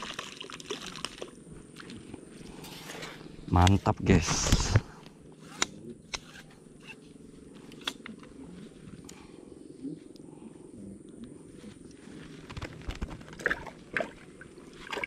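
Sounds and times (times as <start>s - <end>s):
steady low hum: 1.3s - 15.0s.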